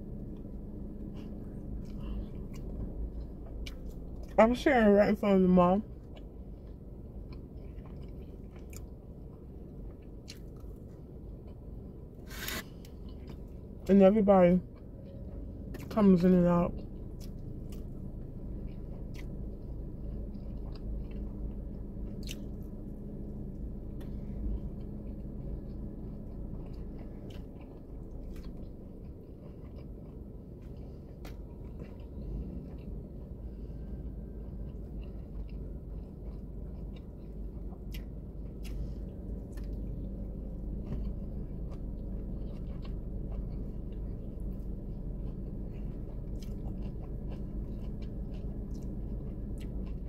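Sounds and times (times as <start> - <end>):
person chewing and biting: 0.0 - 4.4, 6.0 - 13.8, 16.8 - 50.0
low hum inside a car: 0.0 - 50.0.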